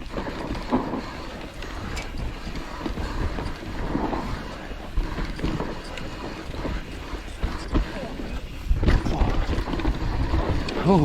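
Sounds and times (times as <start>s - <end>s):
bike knocks and rattles: 0.0s - 10.9s
bike tyre rumble: 0.0s - 11.0s
wind buffeting microphone: 0.0s - 11.0s.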